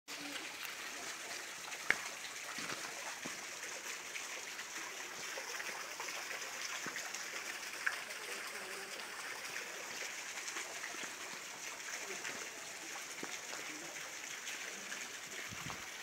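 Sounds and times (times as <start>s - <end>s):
mountain stream rushing: 0.2s - 16.0s.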